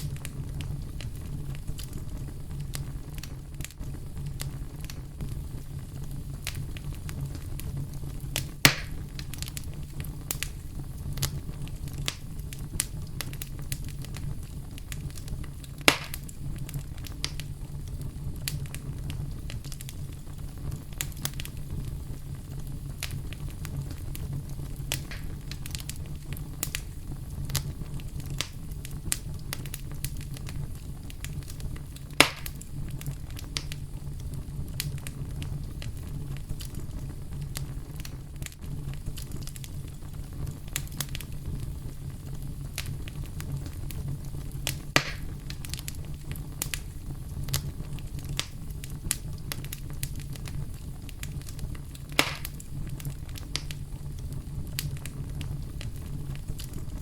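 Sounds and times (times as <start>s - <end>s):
campfire crackling and popping: 0.0s - 57.0s
low rumble of brown noise: 0.0s - 57.0s.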